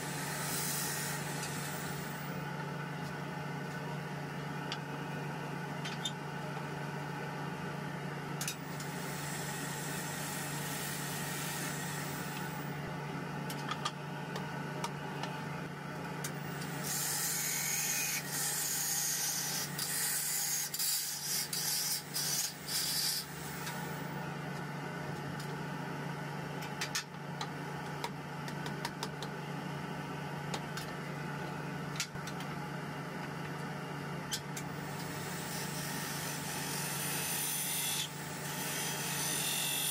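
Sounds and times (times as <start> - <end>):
motor hum: 0.0 - 39.9.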